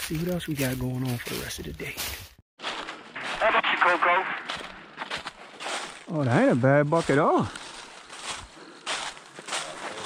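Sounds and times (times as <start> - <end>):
footsteps crunching on woodland floor: 0.0 - 10.0.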